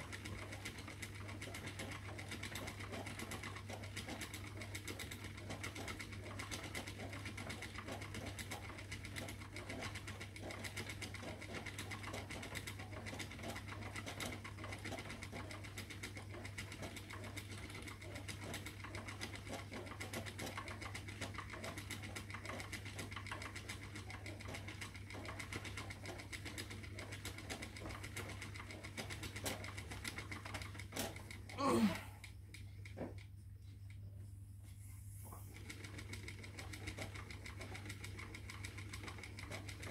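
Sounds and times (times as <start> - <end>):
spinning wheel whirring: 0.0 - 39.9.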